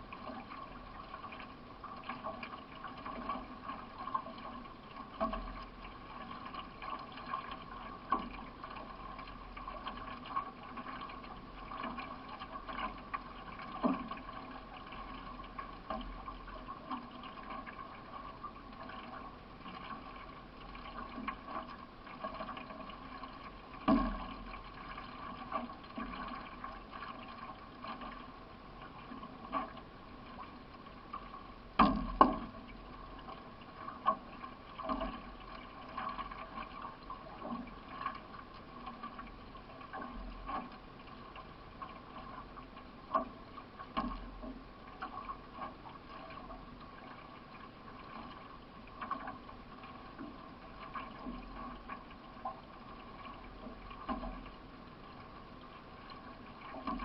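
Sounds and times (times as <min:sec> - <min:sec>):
water splashing along canoe hull: 0:00.0 - 0:57.0.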